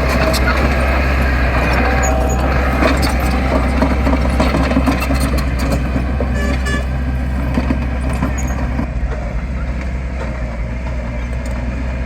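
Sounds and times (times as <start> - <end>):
metal clanks and knocks: 0.0 - 10.4
diesel engine running: 0.0 - 12.0.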